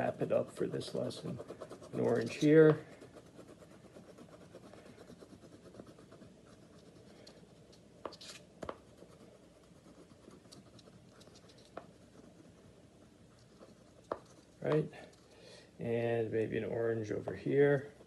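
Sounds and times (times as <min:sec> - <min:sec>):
crayon scratching on paper: 0:00.0 - 0:15.3.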